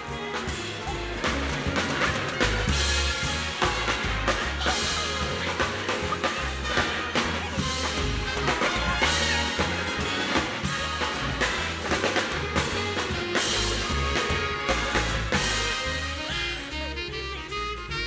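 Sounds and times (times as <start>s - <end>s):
brass and saxophones: 0.0s - 18.0s
drum kit with cymbal hits: 0.0s - 18.0s
walking bass: 0.0s - 18.0s.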